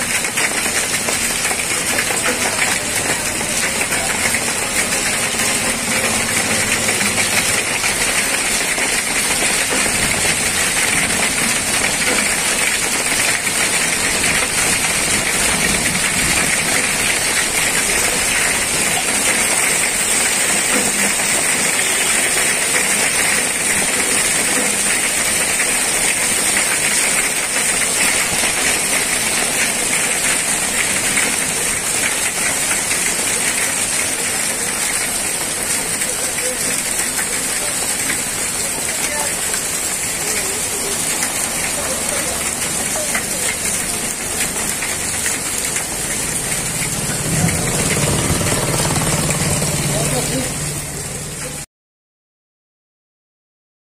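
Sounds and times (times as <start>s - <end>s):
heavy rain and hail falling: 0.0s - 51.7s.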